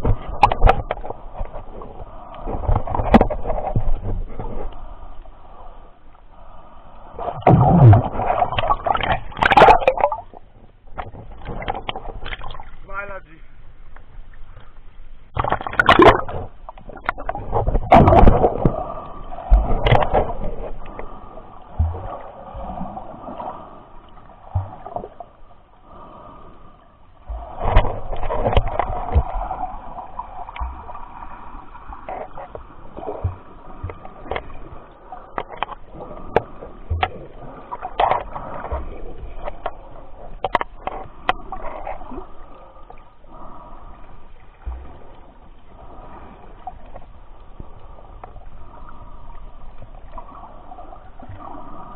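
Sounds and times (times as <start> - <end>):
water gurgling and sloshing: 0.0 - 51.9.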